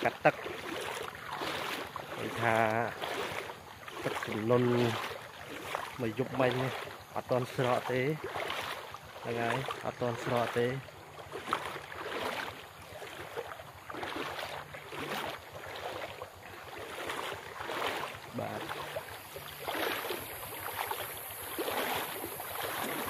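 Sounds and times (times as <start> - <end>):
floodwater sloshing and splashing: 0.0 - 23.0.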